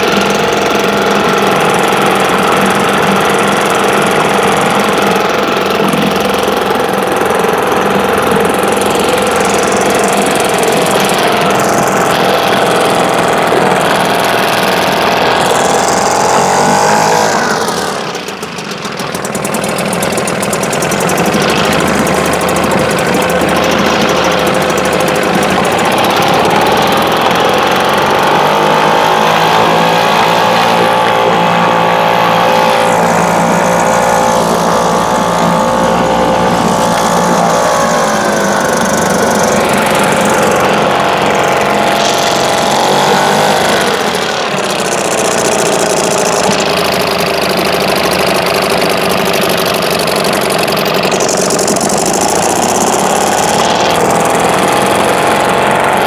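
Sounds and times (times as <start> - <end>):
two-stroke outboard motor running: 0.0 - 56.0.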